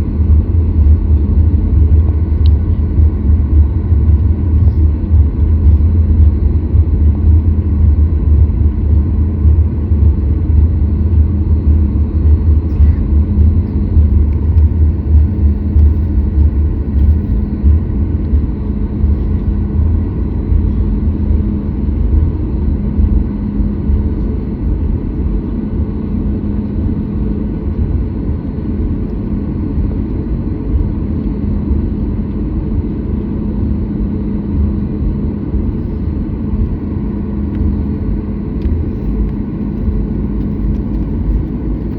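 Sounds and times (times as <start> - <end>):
aircraft cabin engine rumble: 0.0 - 41.9
faint steady hum: 0.0 - 41.9.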